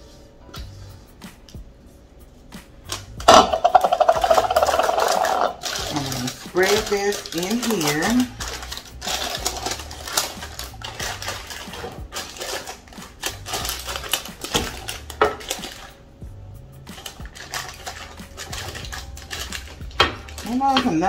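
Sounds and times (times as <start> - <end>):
faint background music: 0.0 - 21.0
parchment paper rustling: 2.2 - 16.0, 16.8 - 21.0
kitchen utensils clicking: 2.9 - 16.0, 16.8 - 21.0.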